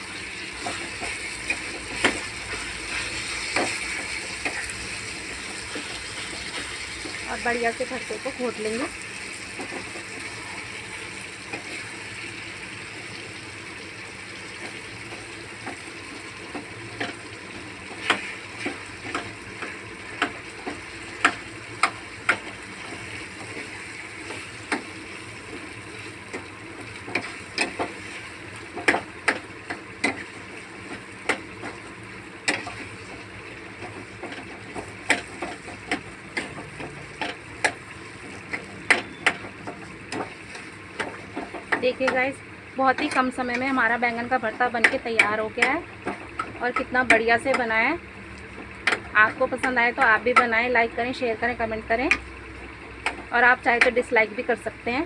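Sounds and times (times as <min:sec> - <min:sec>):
low sizzle from pan: 0:00.0 - 0:55.0.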